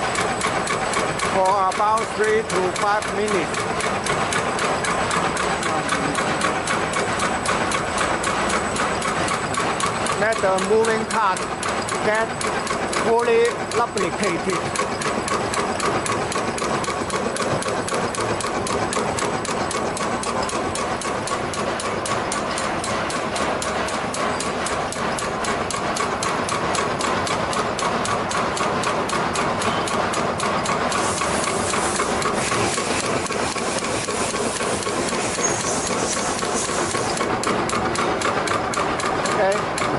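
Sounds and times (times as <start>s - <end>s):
machine mechanism clattering rhythmically: 0.0s - 39.9s.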